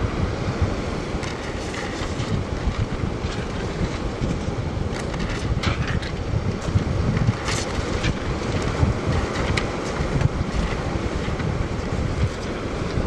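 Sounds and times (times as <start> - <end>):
waves washing on shore: 0.0 - 13.0
wind buffeting microphone: 0.0 - 13.0.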